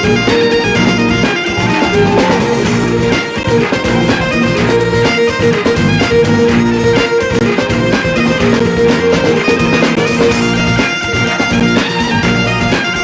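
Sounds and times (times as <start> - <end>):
bagpipes with drone: 0.0 - 13.0
fiddle: 0.0 - 13.0
strummed guitar: 0.0 - 13.0.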